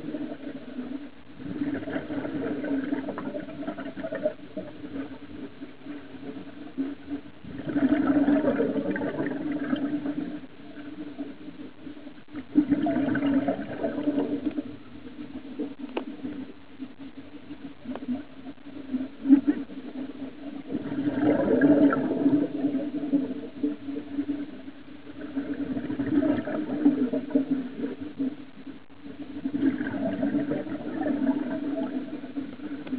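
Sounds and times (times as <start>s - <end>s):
exhaled air bubbling underwater: 0.0s - 32.9s.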